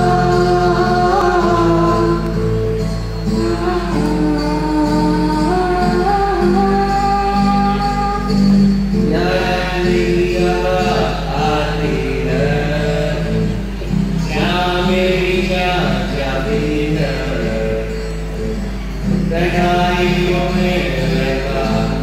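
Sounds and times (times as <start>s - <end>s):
group singing over pa: 0.0s - 22.0s
guitar accompaniment: 0.0s - 22.0s.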